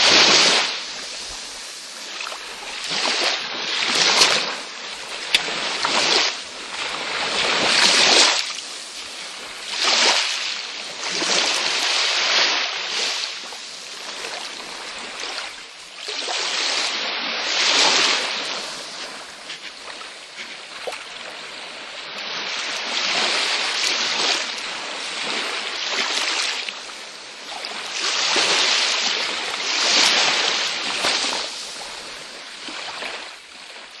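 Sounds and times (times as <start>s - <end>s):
waves washing ashore: 0.0s - 34.0s.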